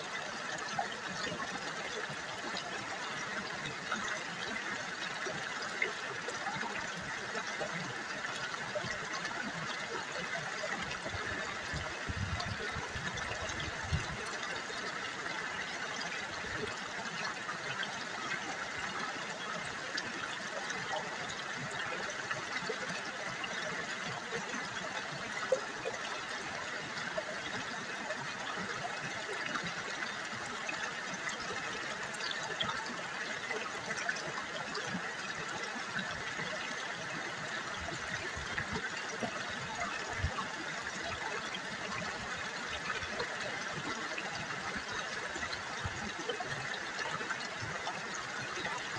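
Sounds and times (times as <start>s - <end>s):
river water babbling over stones: 0.0s - 48.9s.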